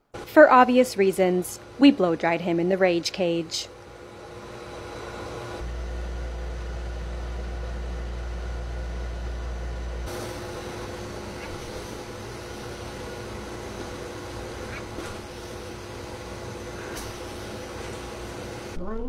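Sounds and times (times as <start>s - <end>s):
blow dryer blowing air: 0.0s - 6.8s, 10.0s - 18.8s.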